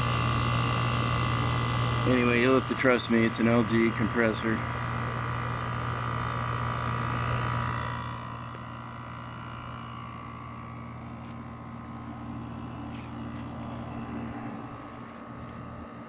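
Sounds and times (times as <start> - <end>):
air conditioner compressor hum: 0.0 - 16.0
air conditioner fan rushing: 0.0 - 16.0.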